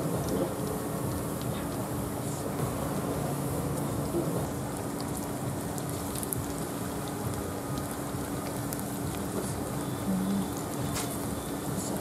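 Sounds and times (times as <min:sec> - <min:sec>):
faint steady hum: 0:00.0 - 0:12.0
food sizzling in hot oil: 0:00.0 - 0:12.0.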